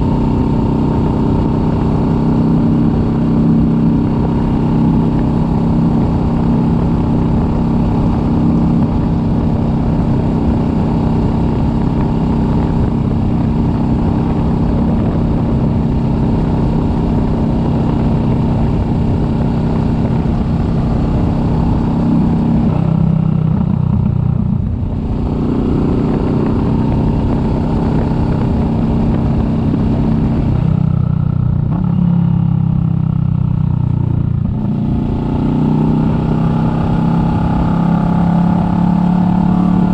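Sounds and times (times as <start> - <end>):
wind noise: 0.0 - 33.2
motorcycle engine running: 0.0 - 39.9.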